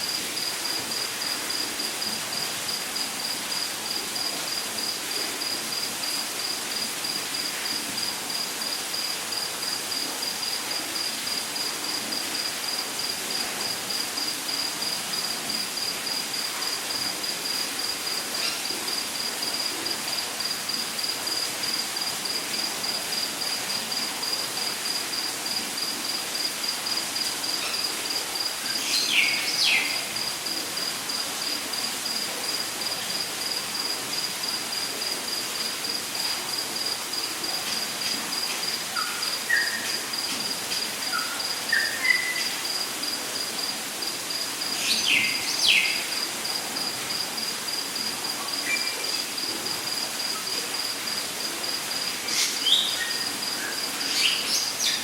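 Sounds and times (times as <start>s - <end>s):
constant hiss: 0.0s - 55.0s.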